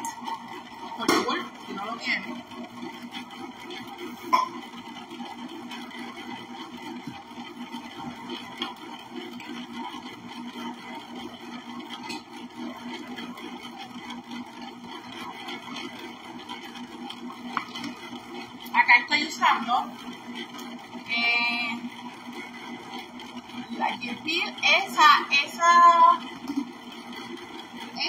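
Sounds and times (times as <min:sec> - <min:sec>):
small electric motor hum: 0:00.0 - 0:28.0.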